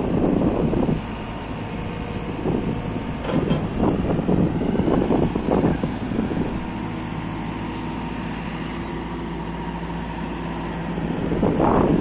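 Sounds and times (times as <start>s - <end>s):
diesel engine idling and revving: 0.0s - 12.0s.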